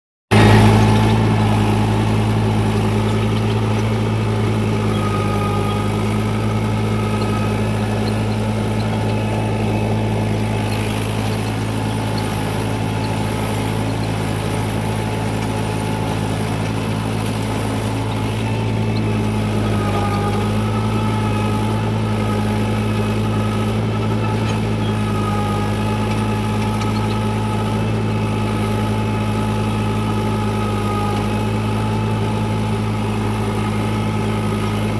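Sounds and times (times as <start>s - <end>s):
tractor engine idling: 0.3s - 34.9s.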